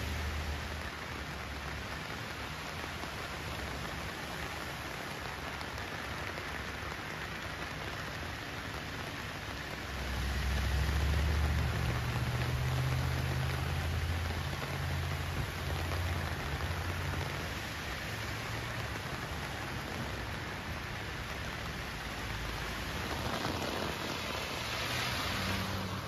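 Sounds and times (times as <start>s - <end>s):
heavy rain pouring on road: 0.0s - 26.0s.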